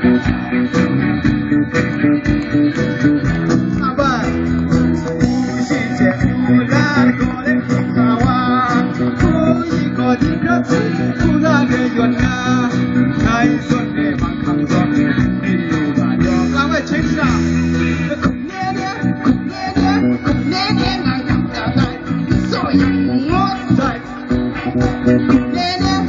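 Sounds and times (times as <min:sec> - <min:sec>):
electric guitar: 0:00.0 - 0:26.0
live band music: 0:00.0 - 0:26.0
person singing: 0:03.5 - 0:26.0.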